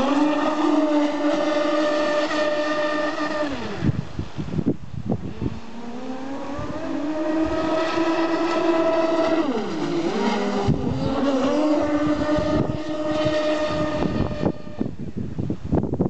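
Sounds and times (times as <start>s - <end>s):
electric motor whine: 0.0s - 15.2s.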